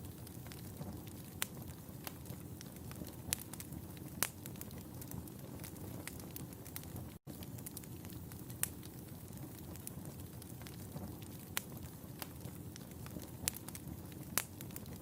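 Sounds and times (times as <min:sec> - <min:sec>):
fire crackling: 0:00.0 - 0:15.0
fire pops and snaps: 0:00.0 - 0:15.0.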